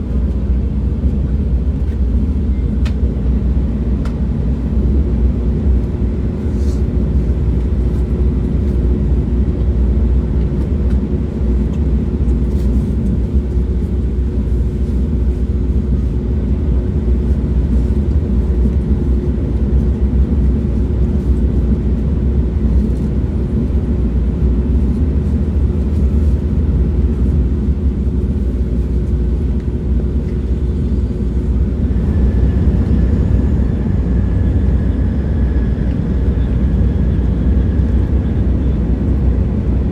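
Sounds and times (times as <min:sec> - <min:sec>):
moving train rumble: 0:00.0 - 0:39.9.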